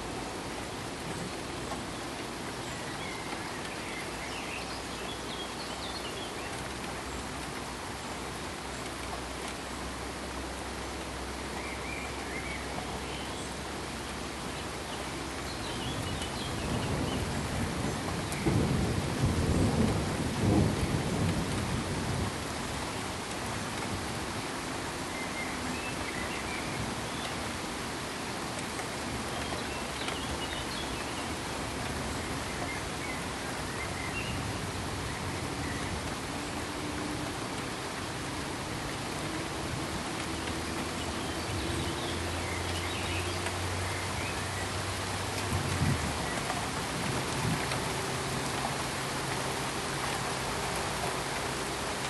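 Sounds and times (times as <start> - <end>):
pink noise hiss: 0.0 - 52.0.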